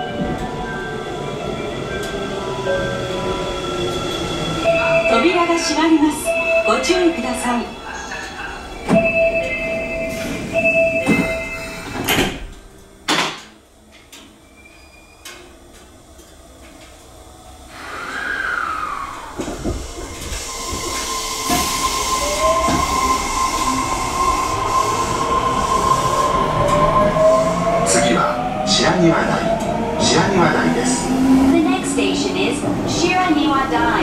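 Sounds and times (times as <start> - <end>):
train running noise: 0.0 - 34.0.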